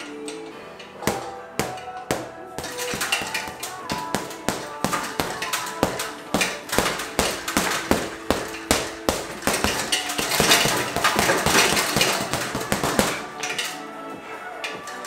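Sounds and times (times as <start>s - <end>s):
gloves punching heavy bag: 1.0s - 13.6s.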